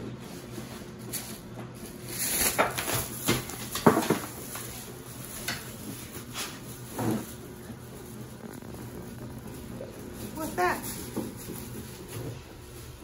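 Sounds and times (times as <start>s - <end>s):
plastic bag crinkling: 0.8s - 13.0s.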